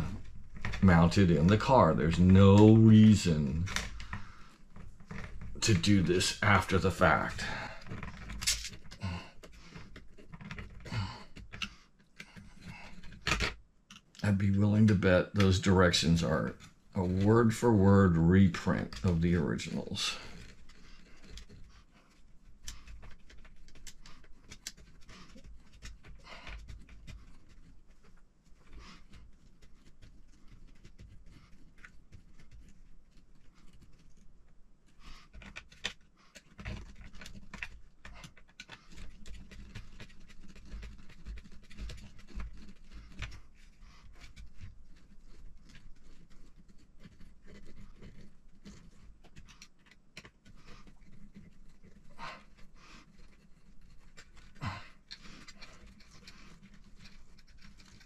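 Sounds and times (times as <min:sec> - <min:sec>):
tool and parts clicking and scraping: 0:00.0 - 0:17.7, 0:18.5 - 0:58.0.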